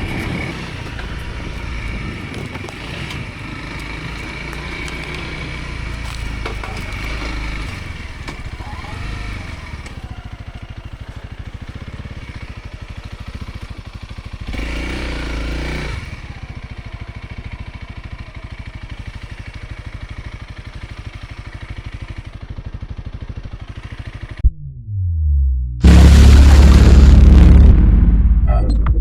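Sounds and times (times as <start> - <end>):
motorcycle engine running: 0.0 - 24.4, 25.8 - 28.7.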